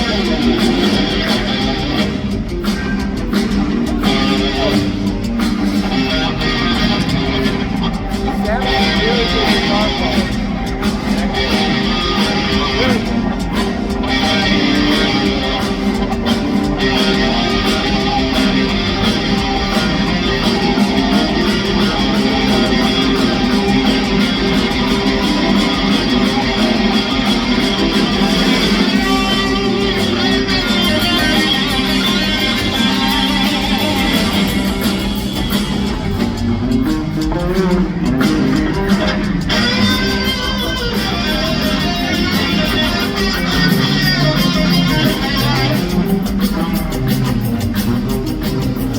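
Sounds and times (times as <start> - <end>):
electric guitar with pitch bends: 0.0 - 48.9
live rock band playing: 0.0 - 48.9.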